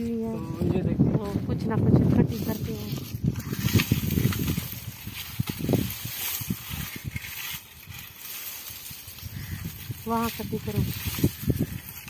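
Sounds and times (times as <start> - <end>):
footsteps on sandy ground: 0.0 - 12.0
wind buffeting microphone: 0.0 - 12.0.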